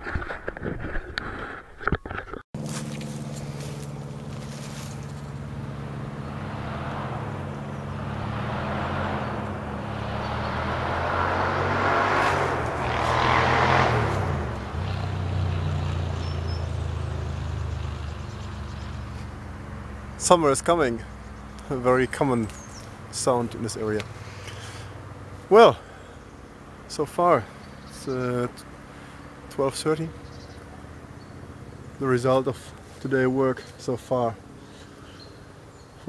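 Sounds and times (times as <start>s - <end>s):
vehicle engine running: 2.6s - 35.8s
vehicle passing by: 2.6s - 35.8s.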